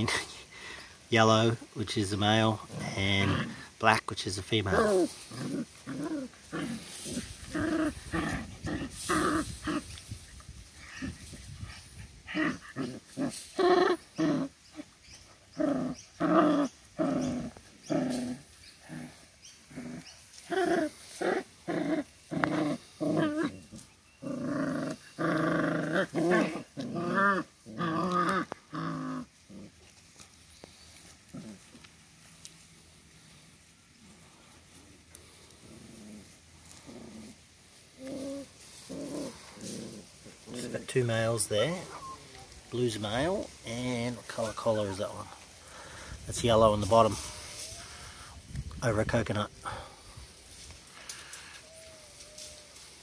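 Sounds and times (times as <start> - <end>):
puppies growling: 2.2 - 3.8, 4.4 - 48.4, 49.6 - 53.0.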